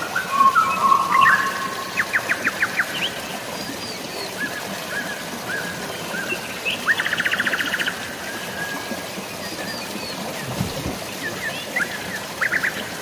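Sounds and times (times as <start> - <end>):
flowing water: 0.0 - 13.0
rain hiss: 0.0 - 13.0.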